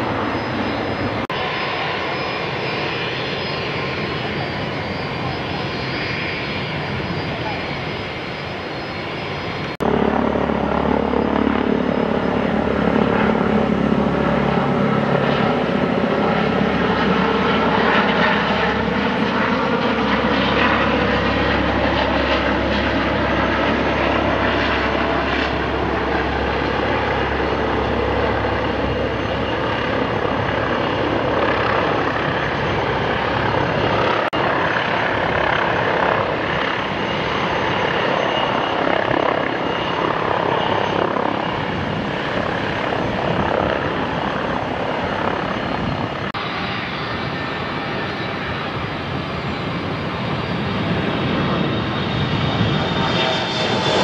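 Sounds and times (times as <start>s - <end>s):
helicopter in low flight: 0.0s - 54.0s
jet engine noise: 0.0s - 54.0s.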